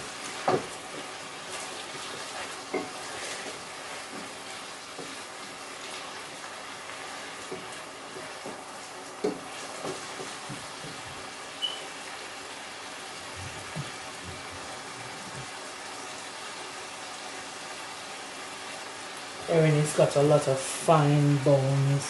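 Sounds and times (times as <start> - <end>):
vegetables sizzling in a skillet: 0.0 - 22.0.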